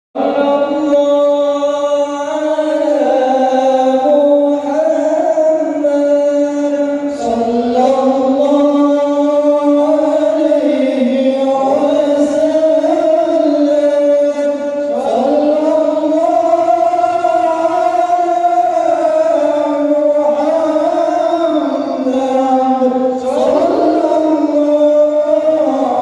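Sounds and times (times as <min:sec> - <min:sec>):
men chanting into microphones: 0:00.2 - 0:26.0.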